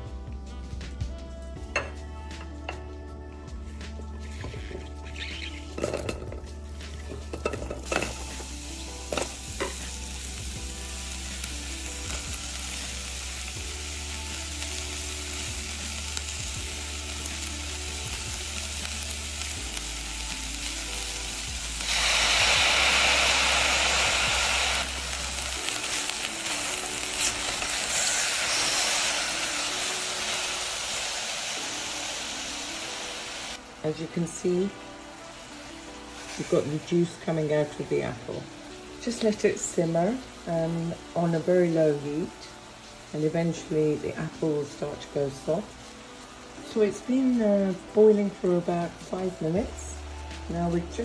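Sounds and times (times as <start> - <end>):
apples sizzling in hot pan: 3.5 - 51.0.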